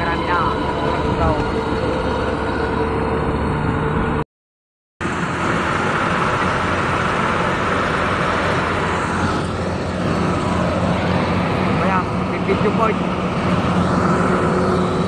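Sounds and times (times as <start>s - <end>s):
combine harvester running: 0.0s - 4.2s, 5.0s - 15.0s.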